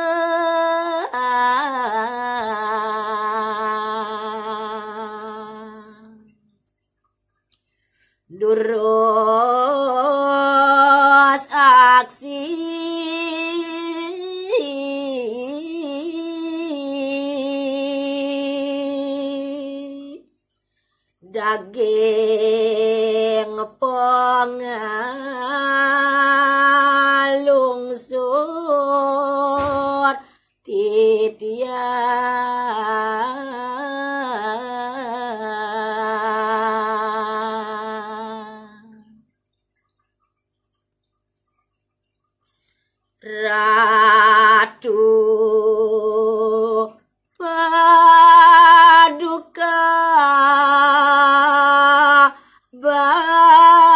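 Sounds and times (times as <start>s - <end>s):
woman singing unaccompanied: 0.0s - 6.5s, 8.3s - 20.3s, 21.2s - 39.2s, 43.2s - 53.9s.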